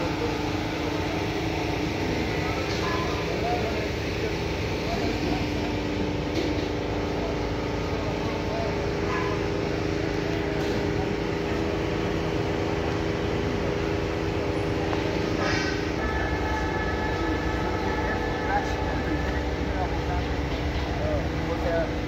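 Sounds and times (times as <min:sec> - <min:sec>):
faint voices: 0:00.0 - 0:22.0
steady mechanical hum: 0:00.0 - 0:22.0.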